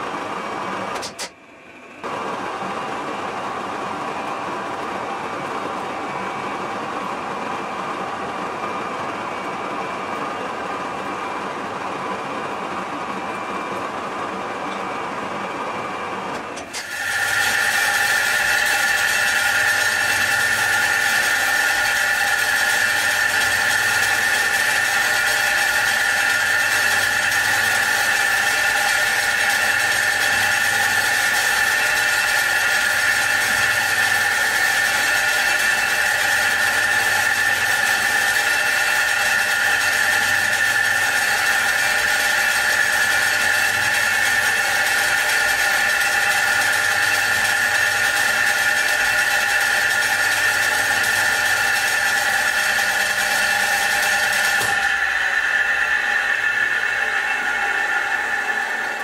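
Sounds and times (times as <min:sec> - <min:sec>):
grinding wheel whine: 0:00.0 - 0:59.0
machine noise: 0:00.0 - 0:59.0.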